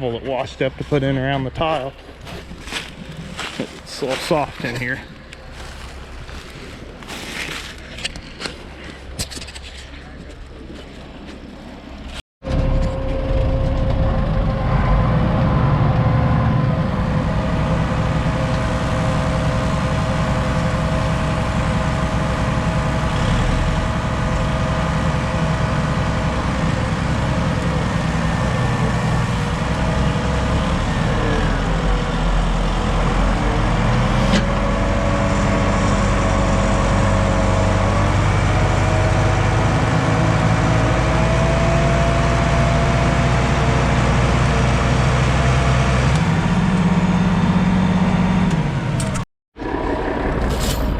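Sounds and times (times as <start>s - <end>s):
diesel farm machinery engine running: 2.4s - 7.8s, 12.4s - 50.9s.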